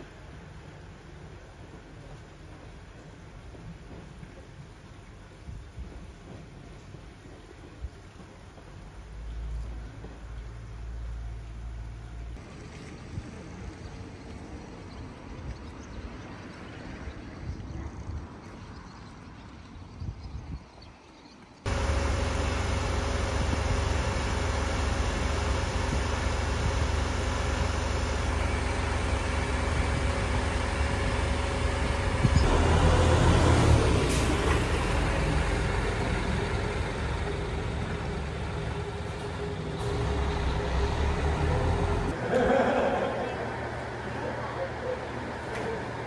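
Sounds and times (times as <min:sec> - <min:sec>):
diesel railcar engine rumbling: 0:00.0 - 0:19.5, 0:21.6 - 0:46.0.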